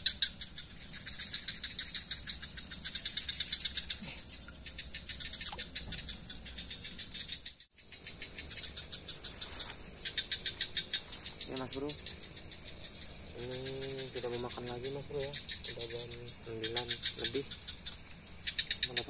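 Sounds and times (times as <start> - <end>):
high-pitched cricket trill: 0.0 - 19.0
rhythmic insect chirping: 0.0 - 19.0.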